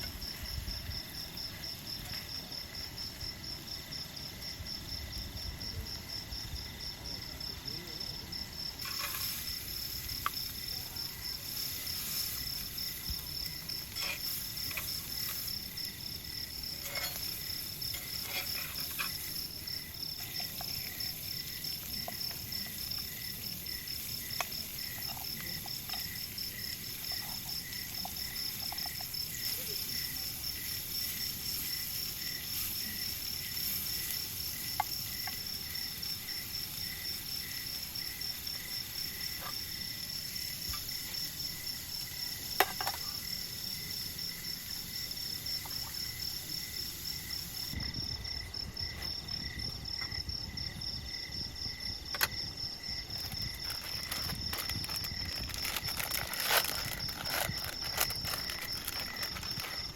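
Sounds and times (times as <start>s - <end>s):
lower insect trill: 0.0s - 59.9s
high-pitched insect trill: 6.3s - 59.9s.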